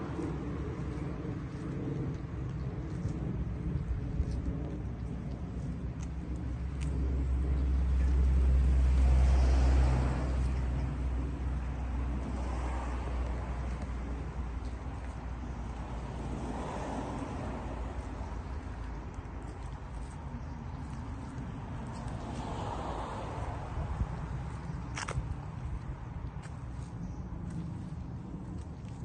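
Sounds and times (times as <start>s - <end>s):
vehicle rumble: 0.0s - 29.0s.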